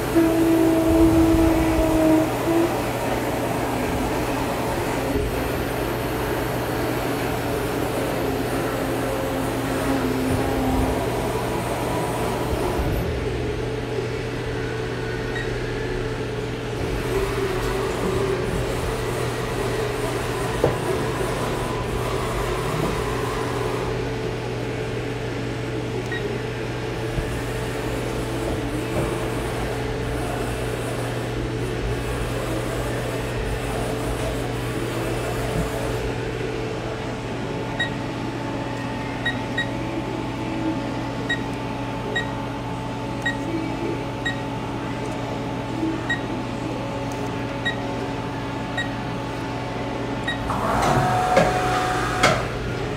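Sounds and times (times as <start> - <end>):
machine hum and fan noise: 0.0 - 52.9.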